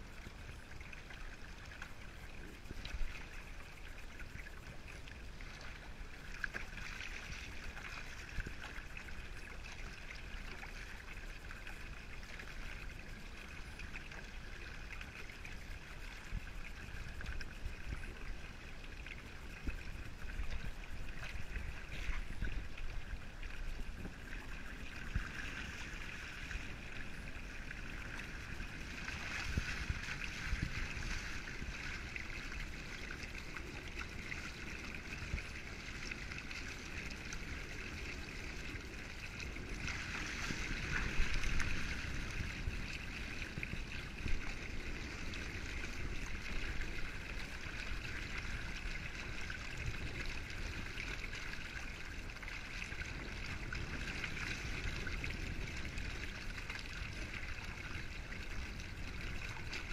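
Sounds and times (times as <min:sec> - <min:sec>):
water rushing along boat hull: 0:00.0 - 0:59.9.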